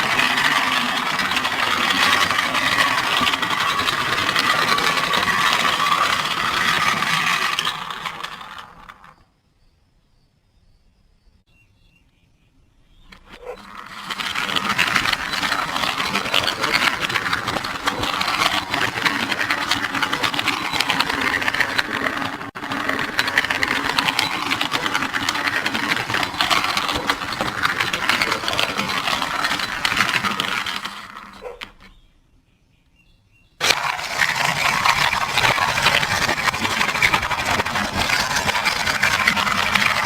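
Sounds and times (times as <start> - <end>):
fast mechanical rattle: 0.0 - 9.2, 13.1 - 31.8, 33.6 - 40.0.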